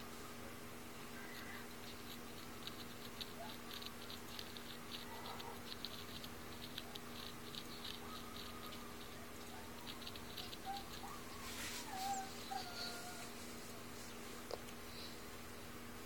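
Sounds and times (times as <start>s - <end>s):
steady low hum: 0.0s - 16.0s
light ticking and scratching: 1.0s - 15.2s.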